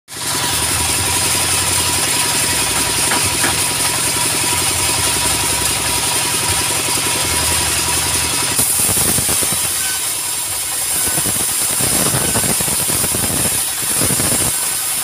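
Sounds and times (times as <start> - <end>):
diesel engine thudding: 0.2 - 12.4
thin high whine: 0.5 - 15.0.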